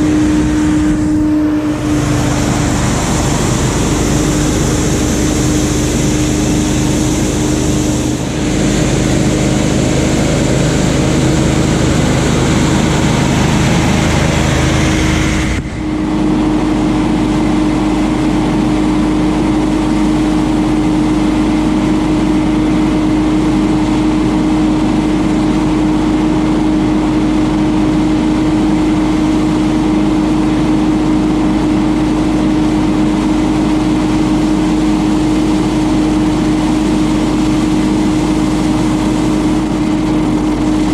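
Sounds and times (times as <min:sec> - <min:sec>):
blower air rushing: 0:00.0 - 0:40.9
blower engine droning: 0:00.0 - 0:40.9.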